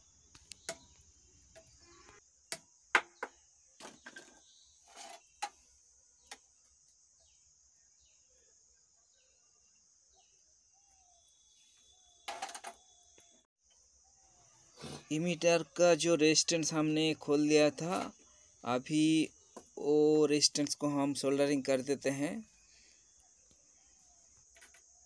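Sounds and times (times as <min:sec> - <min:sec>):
faint bird chirps: 0:00.0 - 0:02.3, 0:03.1 - 0:25.0
crickets droning: 0:00.0 - 0:25.0.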